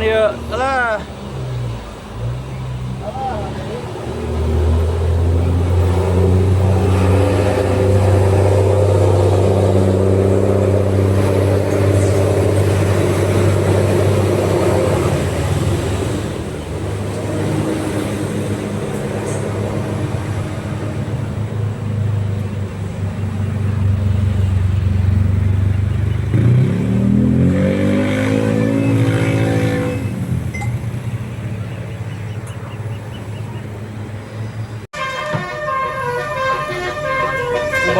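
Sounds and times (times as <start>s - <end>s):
diesel bus engine droning: 0.0s - 37.9s.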